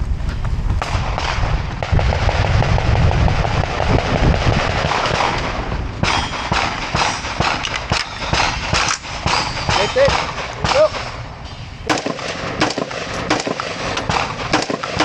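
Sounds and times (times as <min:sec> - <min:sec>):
rapid gunshots: 0:00.8 - 0:11.1, 0:11.9 - 0:15.0.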